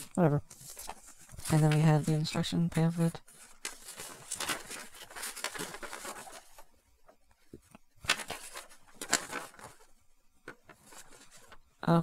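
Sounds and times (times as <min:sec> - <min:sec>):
paper rustling and crinkling: 0:00.0 - 0:11.7.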